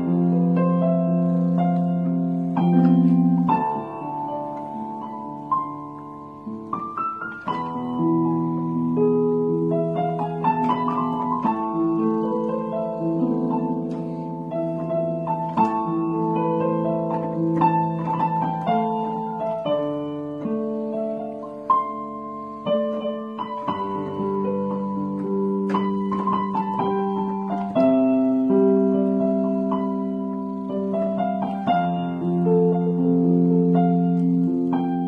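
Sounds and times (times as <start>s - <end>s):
electronic keyboard piano melody: 0.0s - 35.0s.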